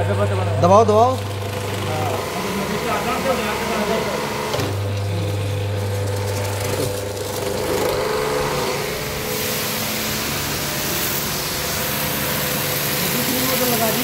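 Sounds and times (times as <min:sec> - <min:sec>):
pressure washer motor hum: 0:00.0 - 0:14.0
water jet hissing on floor: 0:00.3 - 0:14.0.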